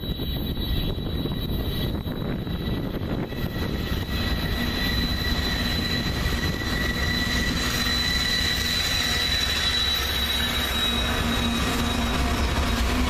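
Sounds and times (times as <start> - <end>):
train engine rumble: 0.0 - 13.0
wheels squealing on rail: 0.0 - 13.0.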